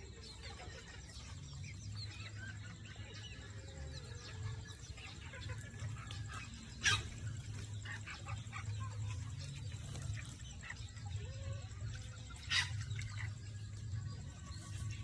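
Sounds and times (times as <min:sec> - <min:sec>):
chicken squawk: 0:00.0 - 0:13.8
chickens clucking: 0:00.0 - 0:15.0.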